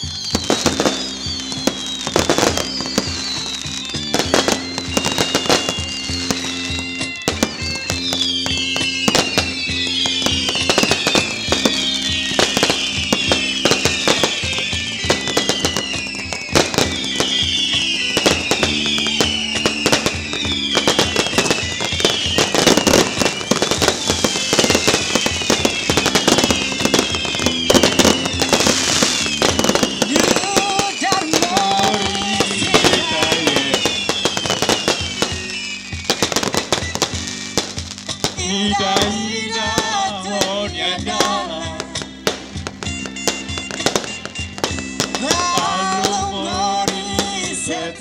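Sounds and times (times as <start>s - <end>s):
high falling whistles: 0.0s - 47.8s
background music: 0.0s - 48.0s
fireworks crackling and banging: 0.0s - 48.0s.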